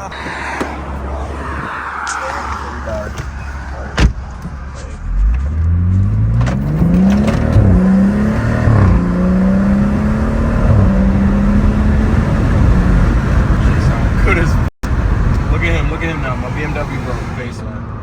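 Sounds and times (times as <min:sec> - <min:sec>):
car engine accelerating: 0:00.0 - 0:17.6.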